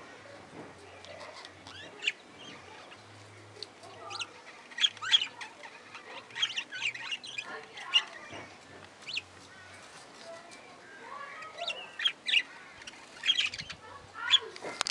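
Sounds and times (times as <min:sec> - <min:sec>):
budgerigars chirping and chattering: 0:00.8 - 0:10.2, 0:10.8 - 0:14.9.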